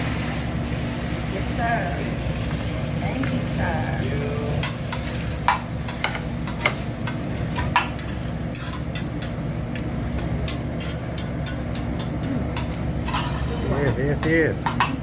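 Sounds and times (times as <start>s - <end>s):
food sizzling: 0.0s - 15.0s.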